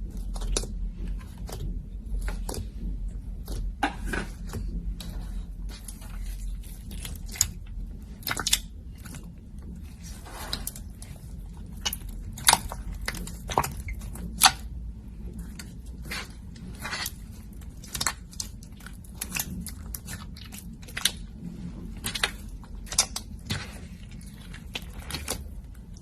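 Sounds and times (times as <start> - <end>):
slime squishing and popping: 3.4 - 26.0.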